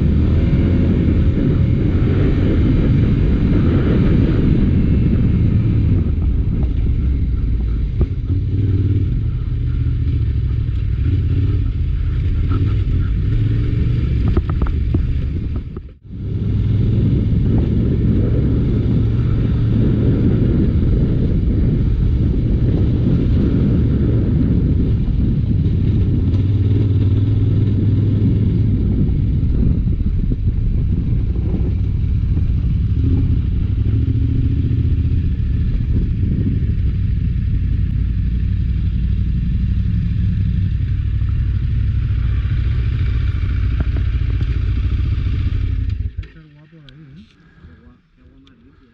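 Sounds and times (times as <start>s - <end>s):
motorcycle engine rumbling: 0.0s - 48.9s.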